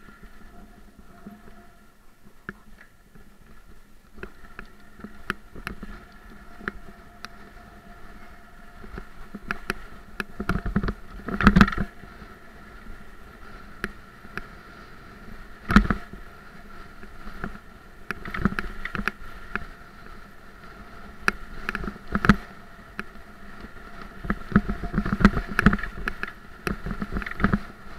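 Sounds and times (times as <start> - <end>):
electric bike motor whine: 0.0 - 2.1, 2.9 - 27.9
bike clicks and rattles over bumps: 0.0 - 27.9.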